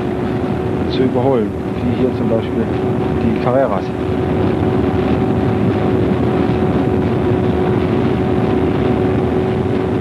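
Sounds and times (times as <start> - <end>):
racing car engine at full throttle: 0.0 - 10.0
wind and road noise: 0.0 - 10.0.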